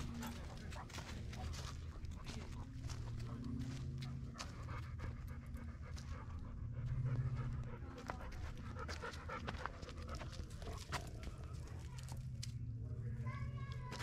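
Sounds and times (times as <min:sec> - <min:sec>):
dog panting: 0:00.0 - 0:11.9
footsteps crunching on trail: 0:00.0 - 0:12.6, 0:13.3 - 0:14.0.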